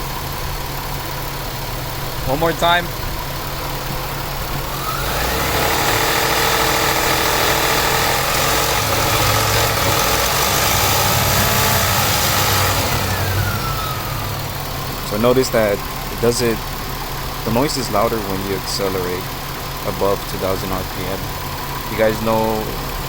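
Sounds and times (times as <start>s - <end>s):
car engine revving: 0.0s - 23.0s
grinding engine knock: 0.0s - 23.0s.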